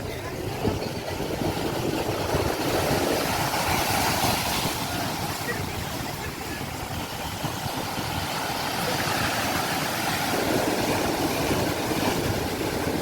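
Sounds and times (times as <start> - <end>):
sea waves washing in: 0.0 - 13.0.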